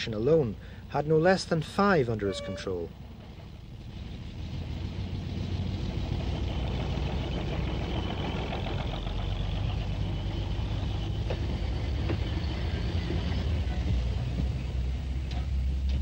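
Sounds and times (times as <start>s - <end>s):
diesel railcar engine drone: 0.0s - 16.0s
wheel and track rumble: 0.0s - 16.0s.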